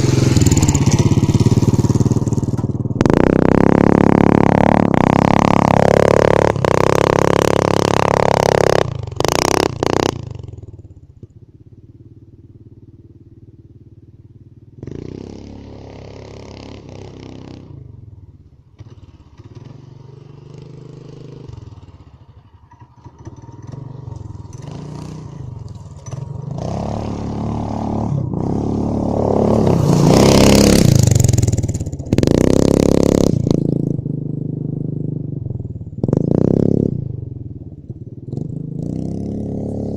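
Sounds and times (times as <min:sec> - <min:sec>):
mini bike engine revving: 0:00.0 - 0:10.6, 0:14.8 - 0:17.8, 0:18.7 - 0:35.2, 0:36.0 - 0:37.1, 0:38.3 - 0:39.9.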